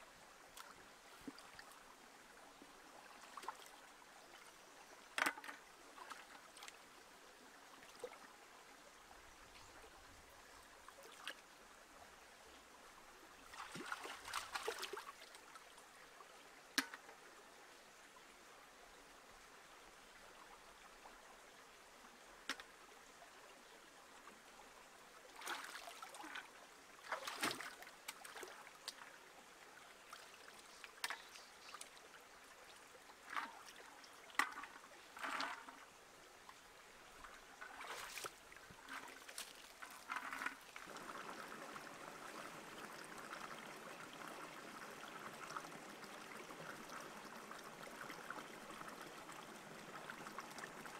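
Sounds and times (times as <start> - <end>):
stream trickling: 0.0 - 50.9.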